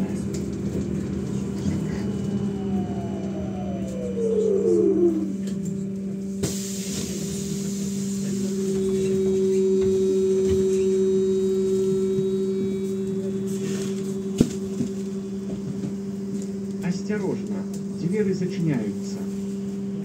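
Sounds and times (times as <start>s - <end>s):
electrical hum with held tones: 0.0s - 20.0s.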